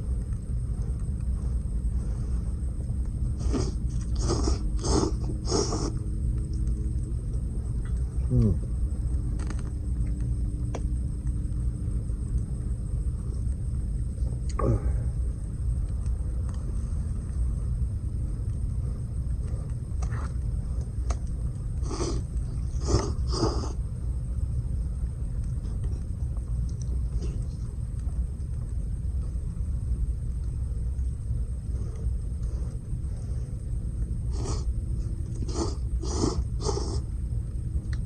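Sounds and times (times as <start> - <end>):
campfire rumbling: 0.0 - 38.0.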